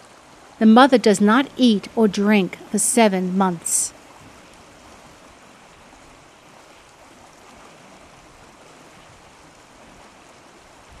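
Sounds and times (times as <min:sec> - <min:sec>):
shallow water flowing: 0:00.0 - 0:11.0.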